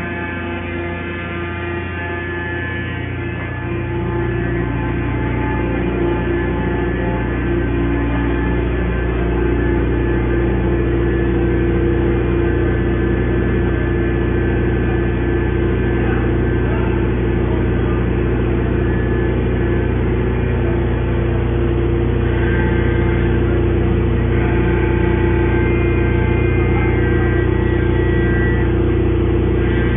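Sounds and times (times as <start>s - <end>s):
hydraulic power unit humming: 0.0s - 29.9s.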